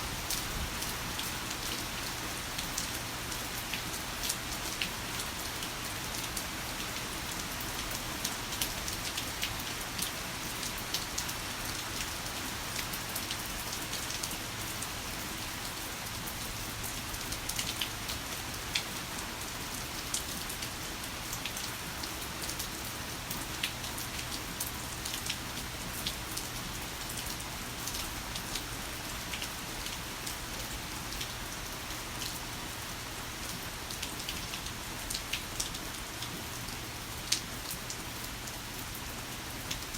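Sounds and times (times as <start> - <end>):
raindrops ticking on a surface: 0.1 - 39.9.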